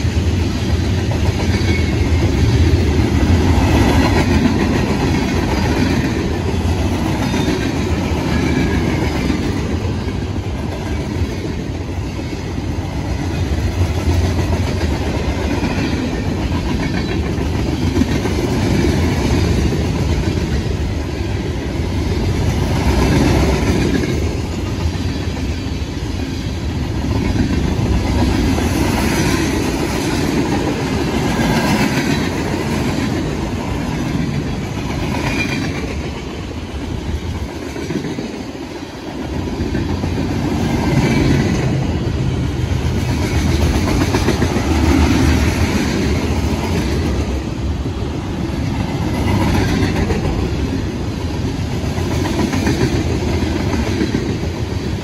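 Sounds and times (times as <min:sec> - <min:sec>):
steel wheels on rail: 0:00.0 - 0:55.0.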